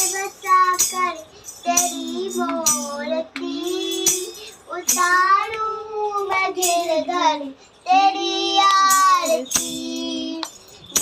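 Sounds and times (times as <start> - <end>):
girl singing devotional song: 0.0 - 11.0
jingling percussion hits: 0.0 - 11.0.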